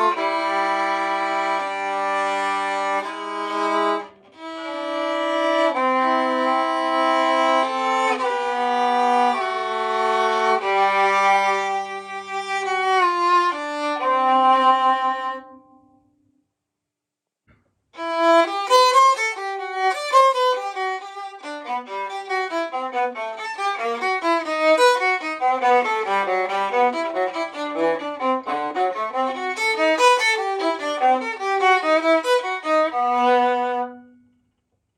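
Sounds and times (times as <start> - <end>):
bowed viola melody: 0.0 - 16.1, 18.0 - 34.4.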